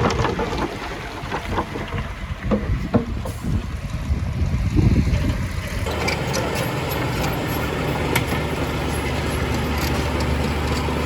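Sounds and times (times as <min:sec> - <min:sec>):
diesel machinery engine running: 0:00.0 - 0:11.0.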